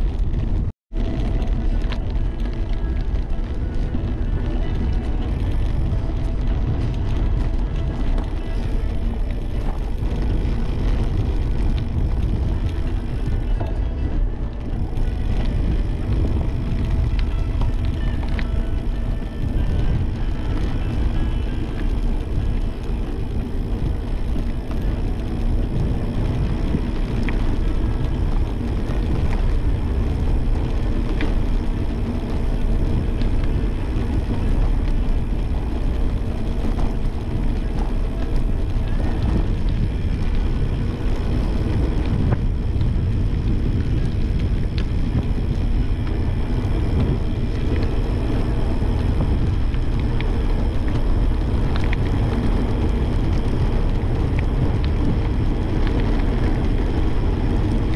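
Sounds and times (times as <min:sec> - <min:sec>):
tyres rolling over rough asphalt: 0:00.0 - 0:57.9
wind buffeting microphone: 0:00.0 - 0:57.9.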